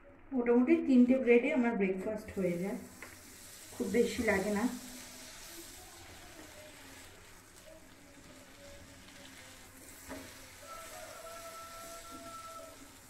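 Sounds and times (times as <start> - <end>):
butter sizzling on a griddle: 2.2 - 13.0.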